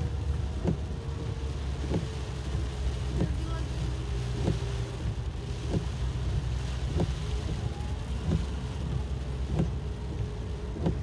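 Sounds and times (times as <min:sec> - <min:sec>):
car road and engine rumble: 0:00.0 - 0:11.0
windshield wipers sweeping: 0:00.0 - 0:11.0.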